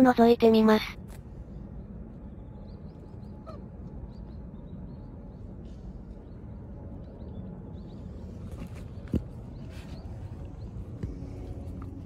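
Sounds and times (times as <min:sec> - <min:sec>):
low rumble: 0:00.0 - 0:12.0
small birds chirping: 0:01.2 - 0:12.0.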